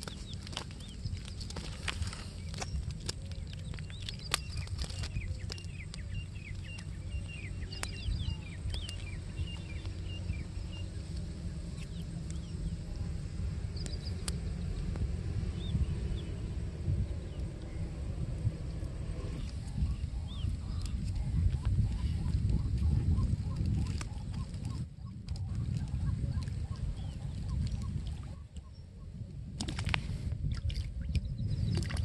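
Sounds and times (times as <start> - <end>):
small birds chirping: 0.0 - 29.2, 31.0 - 32.0
wind buffeting microphone: 0.0 - 32.0.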